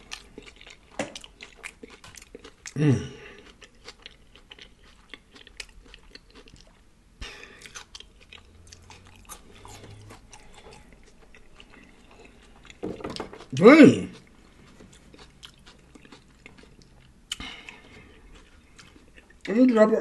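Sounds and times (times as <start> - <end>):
close chewing mouth sounds: 0.0 - 19.5.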